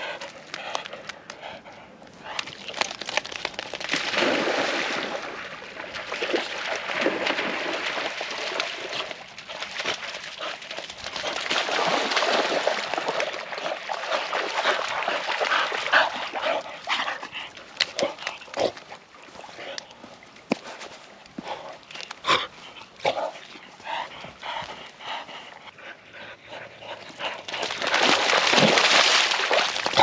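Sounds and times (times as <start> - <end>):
dogs splashing through water: 2.1 - 25.7, 26.6 - 30.0.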